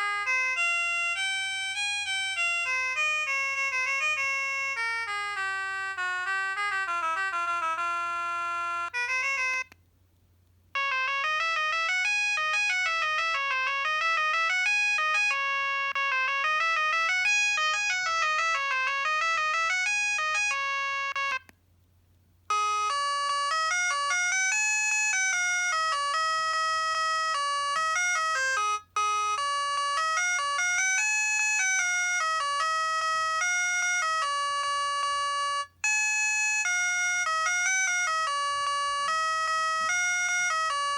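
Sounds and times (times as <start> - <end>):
electronic ringtone melodies: 0.0 - 9.8, 10.8 - 21.5, 22.5 - 40.9.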